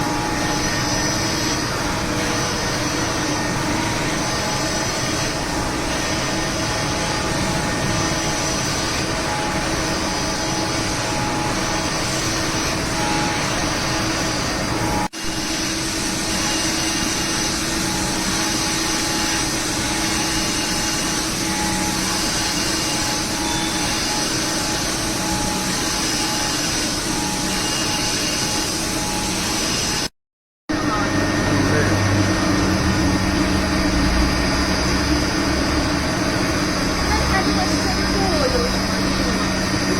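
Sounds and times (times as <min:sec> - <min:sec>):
grinding machine hum and whine: 0:00.0 - 0:30.1, 0:30.7 - 0:39.9.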